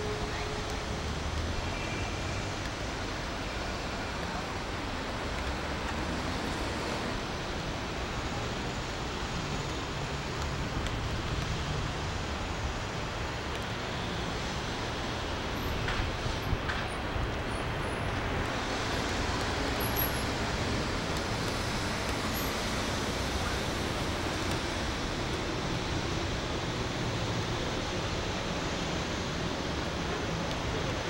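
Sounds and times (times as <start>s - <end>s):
city traffic noise: 0.0s - 31.0s.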